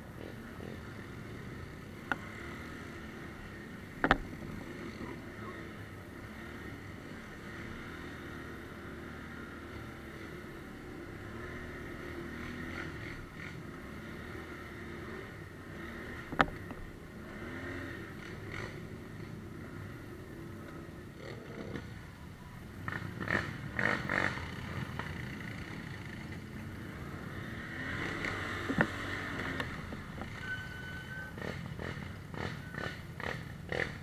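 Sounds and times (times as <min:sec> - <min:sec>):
atv engine running: 0:00.0 - 0:34.0.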